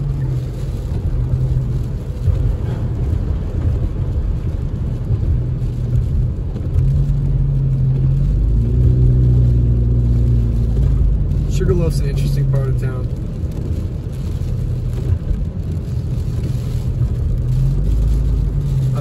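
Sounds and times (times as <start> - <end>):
low engine hum: 0.0 - 19.0
tyres on wet road rumble: 0.0 - 19.0.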